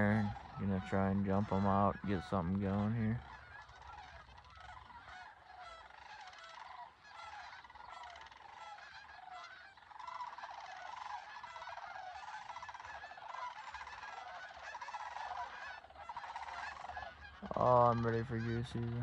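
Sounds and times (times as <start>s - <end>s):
distant geese honking: 0.0s - 19.0s.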